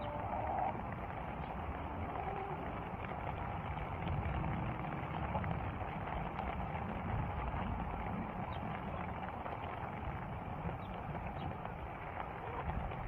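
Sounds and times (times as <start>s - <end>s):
steady rain pattering: 0.0s - 13.0s.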